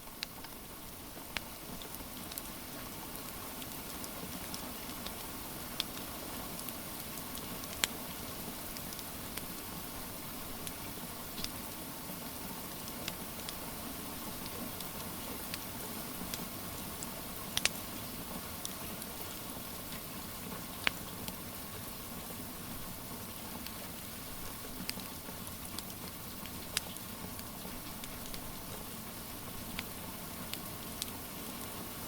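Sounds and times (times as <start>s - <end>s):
rain hissing: 0.0s - 32.0s
wood fire crackling and popping: 0.1s - 9.6s, 12.8s - 21.4s, 23.3s - 31.2s.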